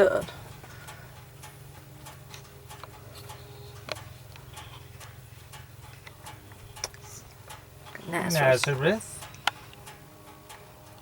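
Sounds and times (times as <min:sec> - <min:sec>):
vehicle engine idling: 0:00.0 - 0:11.0
light ticks and clicks: 0:00.2 - 0:11.0.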